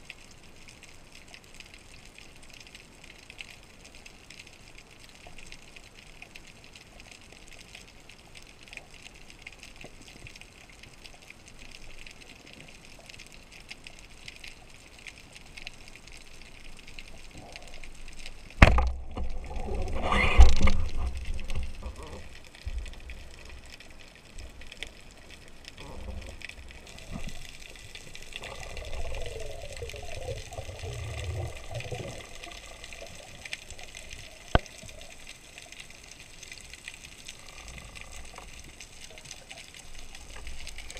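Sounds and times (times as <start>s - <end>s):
rushing water: 0.0s - 40.9s
underwater hiss and crackle: 0.0s - 40.9s.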